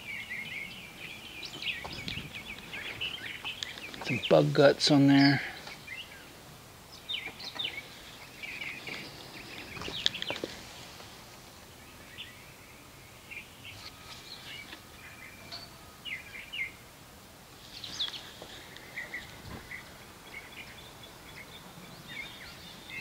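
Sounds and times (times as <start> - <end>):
birds chirping: 0.0 - 23.0
faint outdoor background noise: 0.0 - 23.0.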